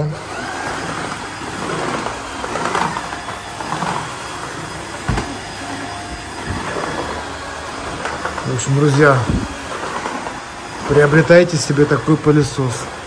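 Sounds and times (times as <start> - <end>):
floor vacuum running: 0.0 - 13.0.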